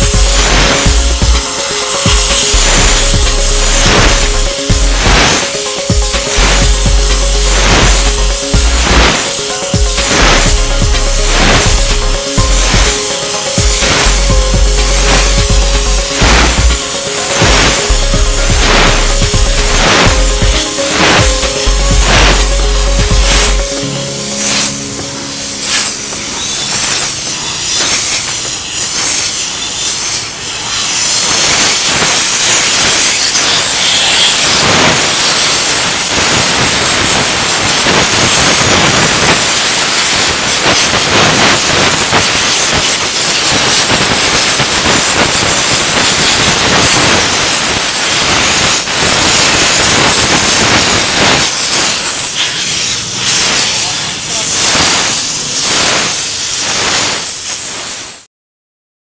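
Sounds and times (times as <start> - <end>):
steam lance hissing: 0.0 - 58.3.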